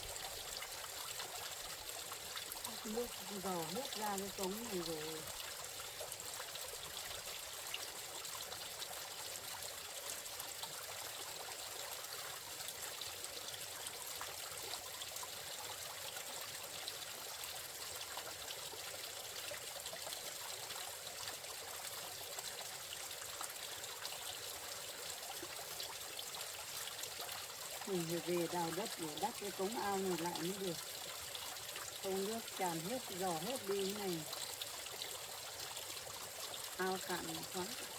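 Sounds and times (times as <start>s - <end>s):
water trickling: 0.0s - 37.9s.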